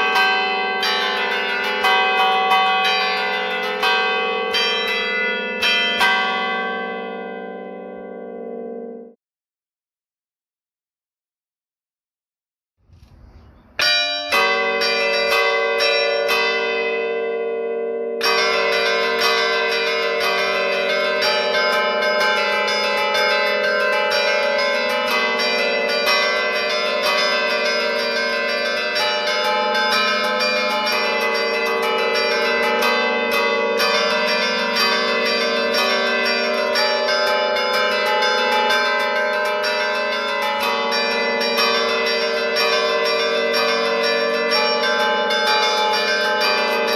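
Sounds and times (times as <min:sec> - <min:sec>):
festive tune on struck bells: 0:00.0 - 0:09.1, 0:13.7 - 0:46.9
church bells ringing: 0:00.0 - 0:09.2, 0:12.9 - 0:46.9.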